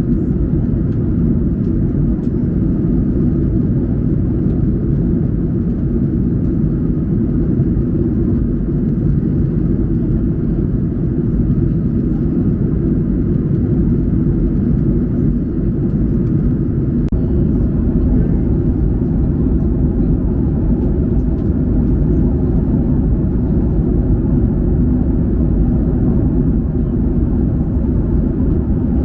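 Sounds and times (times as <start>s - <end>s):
airplane cabin rumble: 0.0s - 29.0s.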